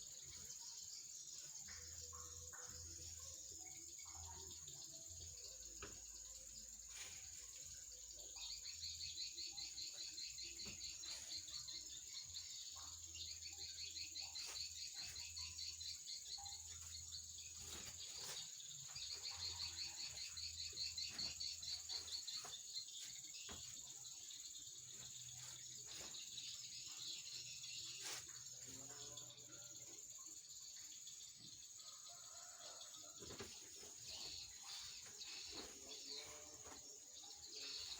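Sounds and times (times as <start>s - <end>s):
insects chirping in pulsed trills: 0.0s - 37.9s.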